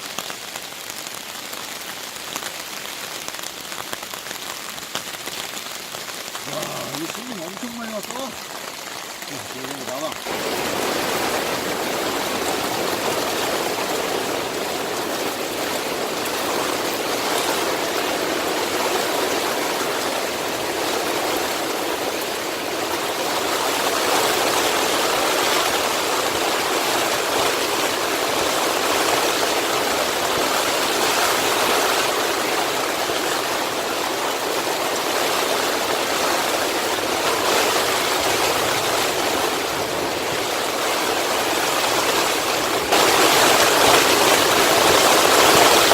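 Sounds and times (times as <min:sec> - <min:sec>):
mountain stream rushing: 0:00.0 - 0:45.9.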